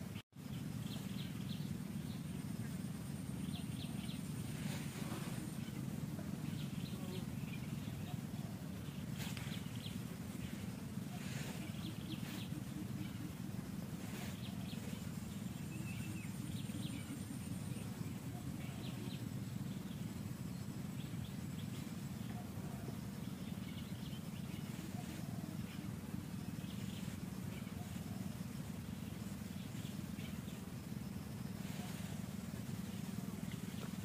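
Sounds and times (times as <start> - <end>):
low forest rumble: 0.0 - 34.0.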